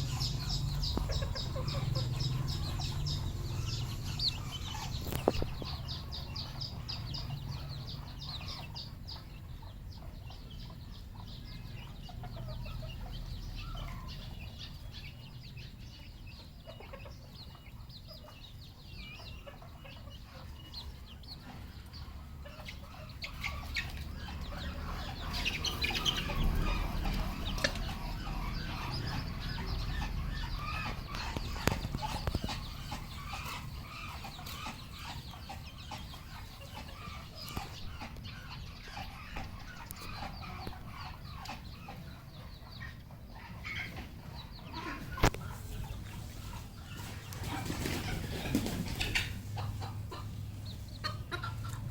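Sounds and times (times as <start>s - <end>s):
junglefowl clucking and calling: 0.0s - 51.9s.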